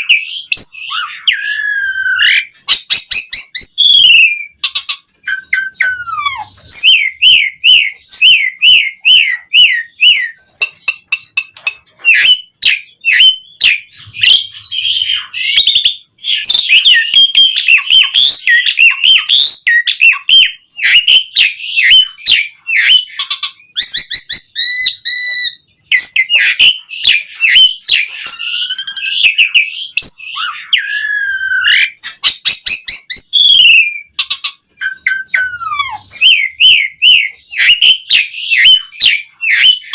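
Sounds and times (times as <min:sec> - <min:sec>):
starling singing varied song: 0:00.0 - 0:39.9.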